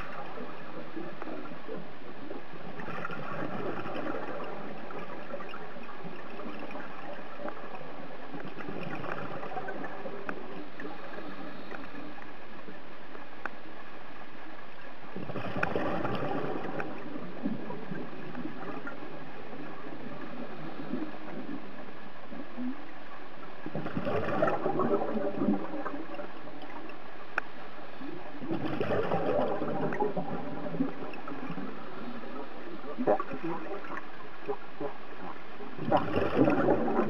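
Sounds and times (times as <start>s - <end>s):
gurgling exhaled bubbles underwater: 0.0s - 13.2s, 15.1s - 37.0s.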